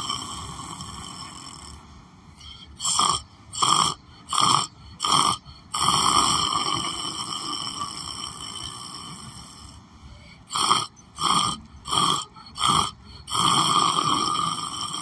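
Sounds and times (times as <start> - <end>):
person snoring: 0.0 - 1.8, 2.4 - 15.0.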